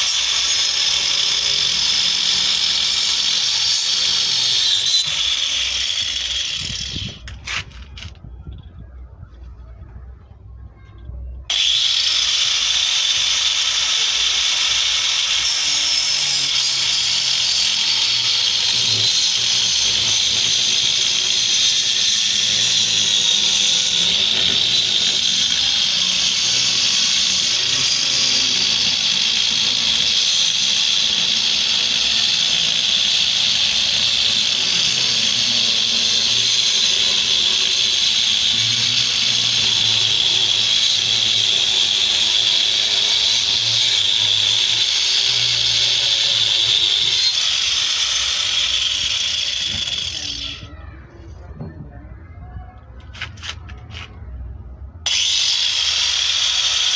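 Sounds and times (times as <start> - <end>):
power tool whining on wood: 0.0 - 7.7, 11.5 - 50.7, 55.1 - 56.9.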